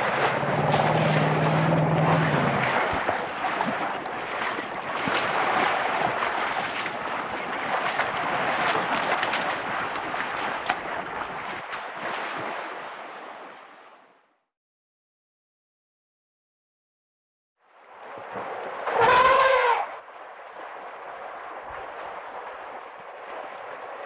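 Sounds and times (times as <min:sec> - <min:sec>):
elephants splashing in water: 0:00.0 - 0:13.7, 0:17.9 - 0:24.0.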